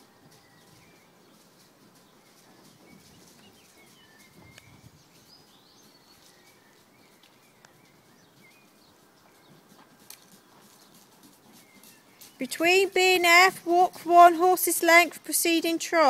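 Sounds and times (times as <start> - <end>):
faint birds chirping: 0.0 - 16.0
outdoor background hiss: 0.0 - 16.0.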